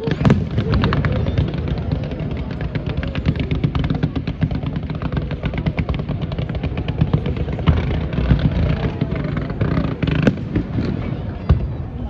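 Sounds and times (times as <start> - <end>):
fireworks booms: 0.0 - 12.0
fireworks crackling and popping: 0.0 - 12.0.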